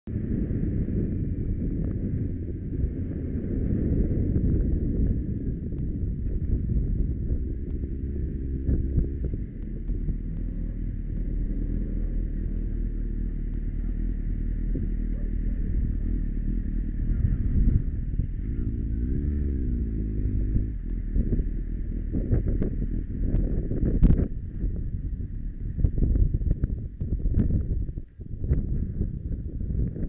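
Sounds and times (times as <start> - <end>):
wind rumbling on microphone: 0.0 - 30.0
motorcycle engine revving: 0.1 - 27.9.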